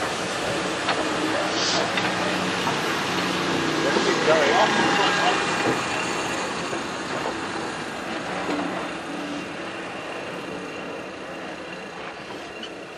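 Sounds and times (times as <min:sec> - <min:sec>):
coaches rolling by: 0:00.0 - 0:12.9
steam train pulling away: 0:00.0 - 0:12.9.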